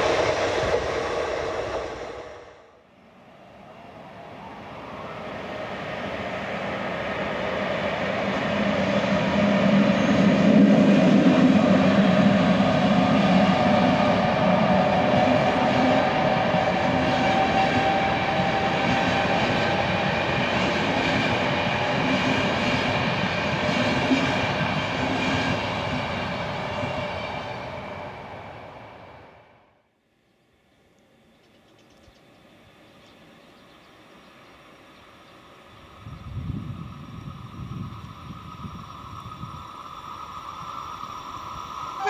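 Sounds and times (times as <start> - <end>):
passenger train running past: 0.0 - 29.9, 31.0 - 42.0.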